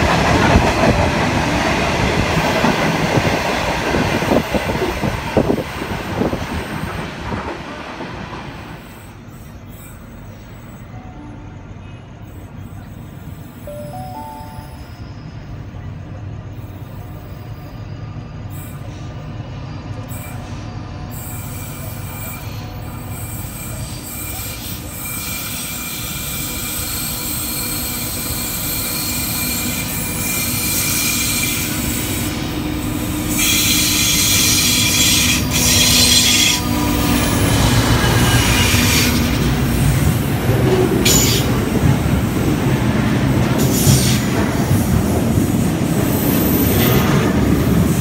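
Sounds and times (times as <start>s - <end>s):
diesel locomotive engine drone: 0.0s - 48.0s
train wheels squealing and hissing: 8.4s - 48.0s.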